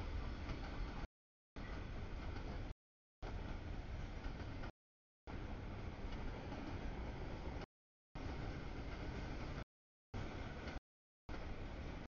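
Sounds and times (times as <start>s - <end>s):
freight train cars rumbling: 0.0s - 4.7s, 5.3s - 12.0s.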